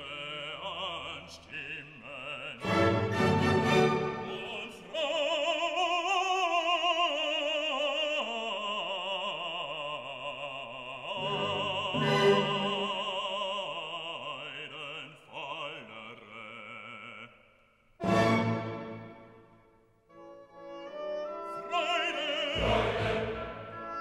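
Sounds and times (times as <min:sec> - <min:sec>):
operatic singing: 0:00.0 - 0:19.5, 0:20.7 - 0:24.0.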